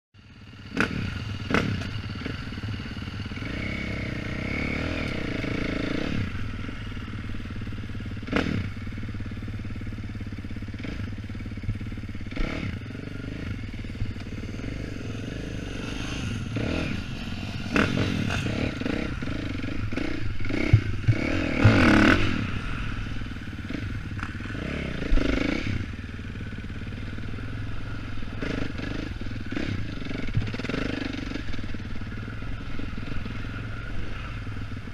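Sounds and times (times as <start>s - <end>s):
dirt bike engine: 0.2s - 34.9s.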